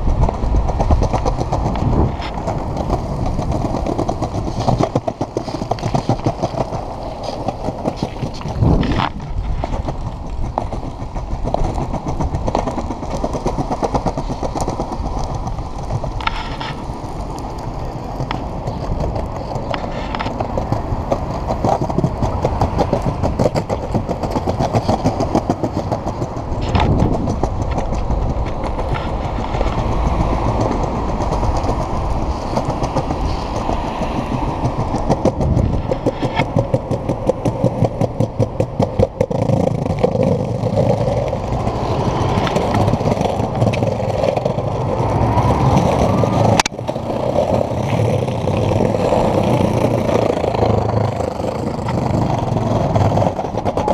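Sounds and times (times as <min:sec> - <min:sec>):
skateboard wheels rolling: 0:00.0 - 0:53.9.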